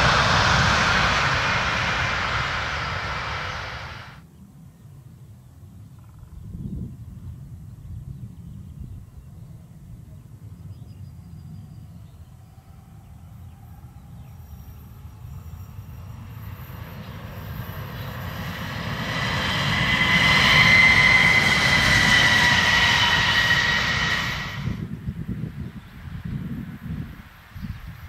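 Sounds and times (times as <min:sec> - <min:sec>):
electric locomotive rumble and whine: 0:00.0 - 0:04.2, 0:06.1 - 0:28.0.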